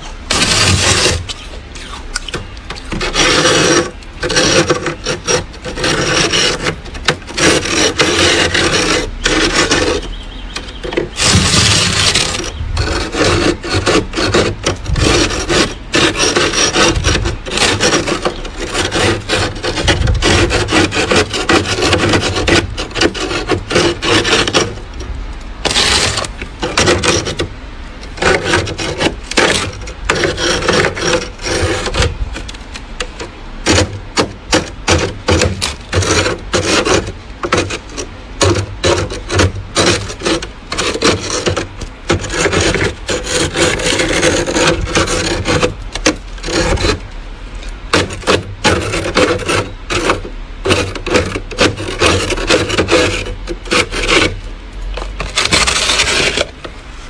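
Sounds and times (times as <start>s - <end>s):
metal spoon scraping frost: 0.0s - 24.9s, 25.6s - 57.0s.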